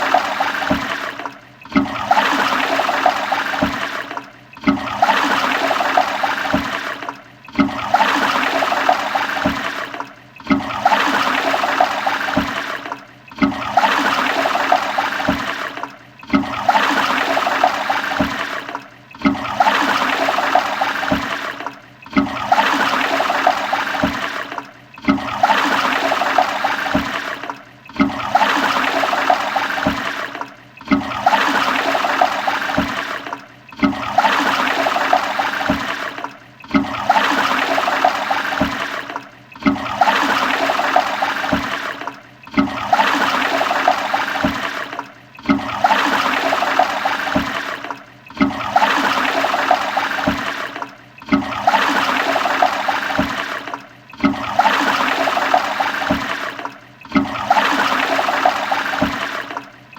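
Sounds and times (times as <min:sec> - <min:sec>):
toilet flushing: 0:00.0 - 0:59.9.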